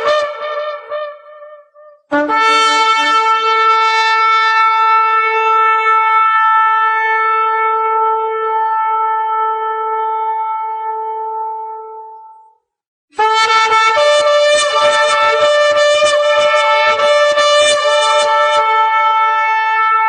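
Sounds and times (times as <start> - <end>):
shofar long blast: 0.0 - 12.0, 13.2 - 20.0.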